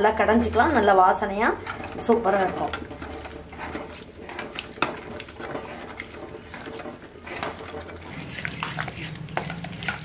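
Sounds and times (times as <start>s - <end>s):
ladle scraping and knocking pot: 0.0s - 10.0s.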